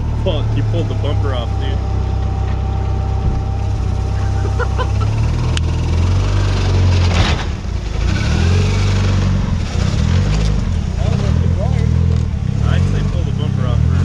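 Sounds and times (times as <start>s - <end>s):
car engine revving at low revs: 0.0s - 14.0s.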